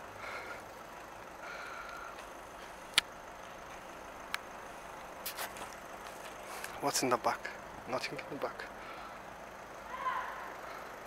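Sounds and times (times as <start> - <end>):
distant traffic: 0.0 - 11.0.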